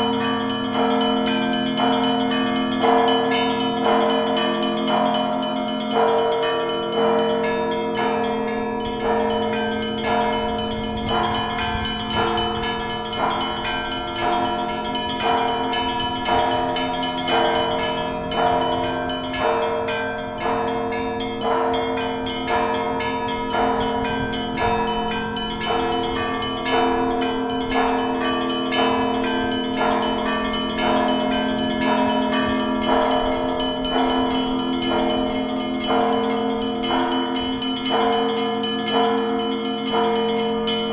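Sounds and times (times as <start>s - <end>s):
church bells ringing a peal: 0.0s - 40.9s.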